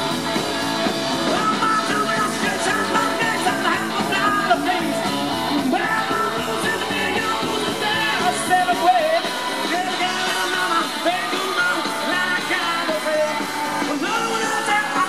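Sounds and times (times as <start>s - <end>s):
bass guitar: 0.0s - 15.0s
drum kit: 0.0s - 15.0s
electric guitar: 0.0s - 15.0s
man singing: 1.2s - 15.0s.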